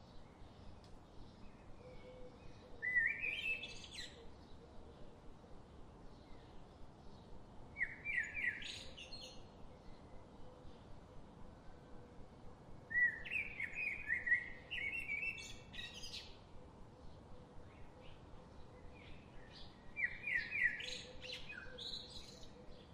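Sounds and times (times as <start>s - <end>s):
faint background hiss: 0.0s - 22.9s
songbird chirping: 0.0s - 22.9s.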